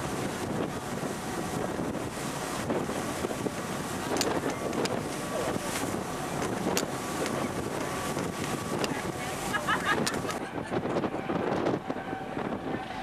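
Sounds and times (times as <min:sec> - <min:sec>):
rushing water: 0:00.0 - 0:13.0
wind buffeting microphone: 0:00.0 - 0:13.0
ferry engines droning: 0:02.2 - 0:13.0.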